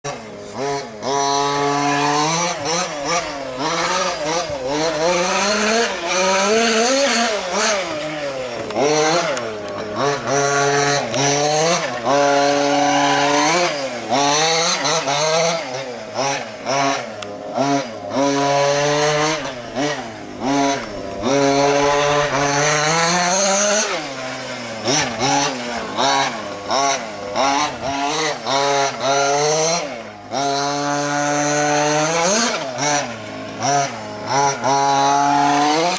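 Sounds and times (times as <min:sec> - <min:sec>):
two-stroke engine revving: 0:00.0 - 0:35.9.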